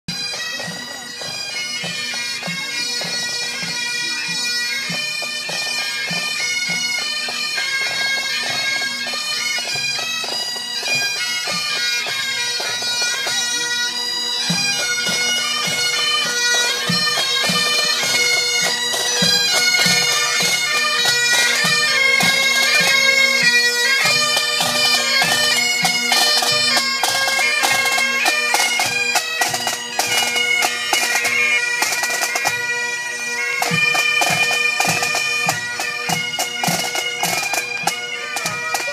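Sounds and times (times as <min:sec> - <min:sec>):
bagpipes playing a tune: 0:00.1 - 0:38.9.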